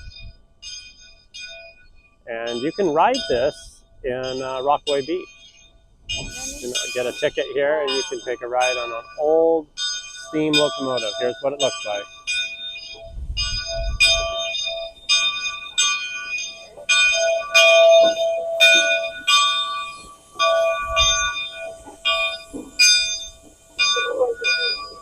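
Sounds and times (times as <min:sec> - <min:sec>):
locomotive bell ringing: 0:00.0 - 0:25.0.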